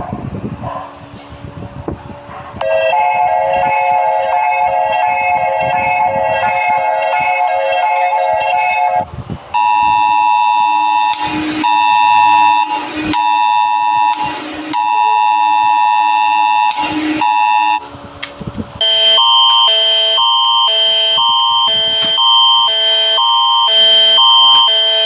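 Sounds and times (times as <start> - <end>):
pulsing alarm: 2.6 - 17.8, 18.8 - 25.0
two-tone electronic alarm: 2.6 - 17.8, 18.8 - 25.0.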